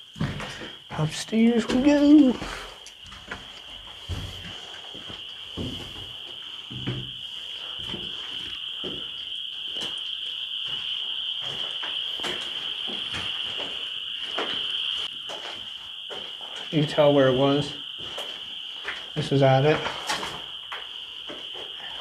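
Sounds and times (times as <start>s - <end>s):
night insects chirring: 0.0s - 22.0s
footsteps on concrete: 1.6s - 16.7s, 18.0s - 21.8s.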